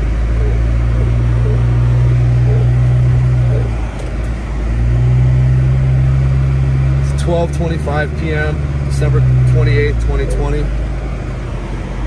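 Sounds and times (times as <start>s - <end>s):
car engine low hum: 0.0s - 12.0s.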